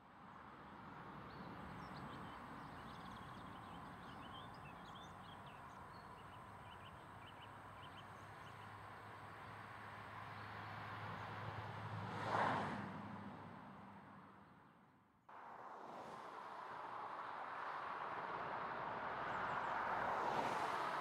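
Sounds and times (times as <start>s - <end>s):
faint outdoor background rush: 0.0s - 21.0s.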